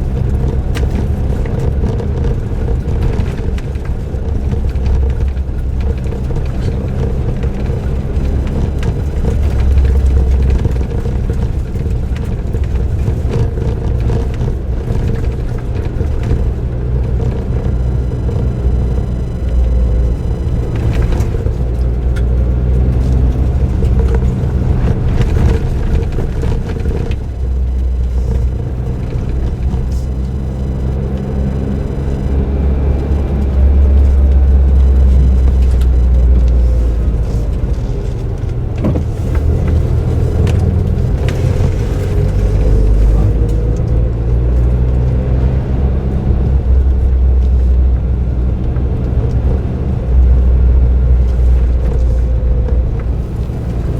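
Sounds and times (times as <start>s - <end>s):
car engine droning: 0.0s - 53.9s
road noise: 0.0s - 53.9s.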